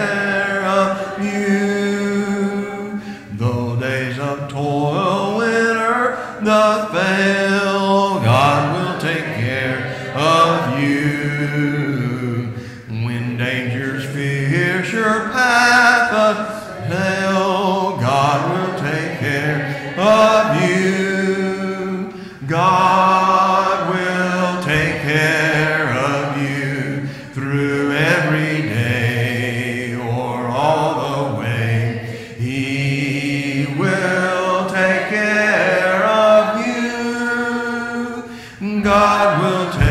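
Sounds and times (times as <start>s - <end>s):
voices singing a hymn unaccompanied: 0.0s - 39.9s.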